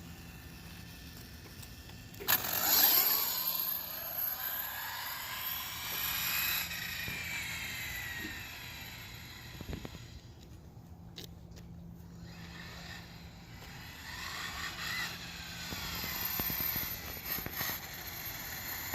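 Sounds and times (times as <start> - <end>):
toy truck motor whining: 0.0 - 10.5, 12.1 - 18.9.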